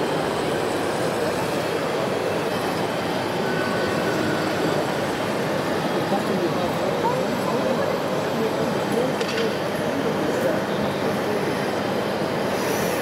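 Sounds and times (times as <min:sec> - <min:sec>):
busy exhibition hall din: 0:00.0 - 0:13.0.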